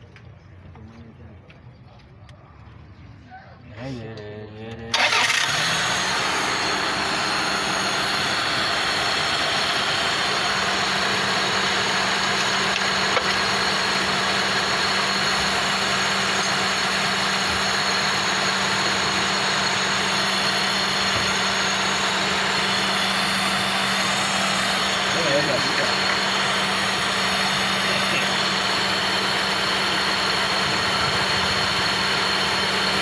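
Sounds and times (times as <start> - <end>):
car engine idling: 4.9 - 33.0.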